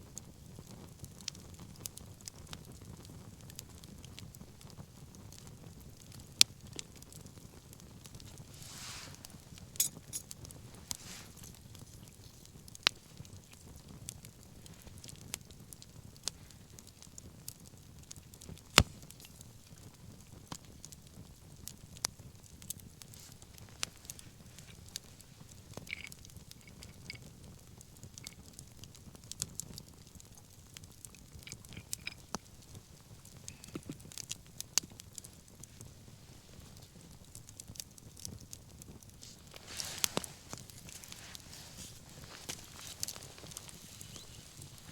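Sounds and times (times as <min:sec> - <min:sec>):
wood fire crackling: 0:00.0 - 0:44.9
sharp pops from fire: 0:00.1 - 0:44.9.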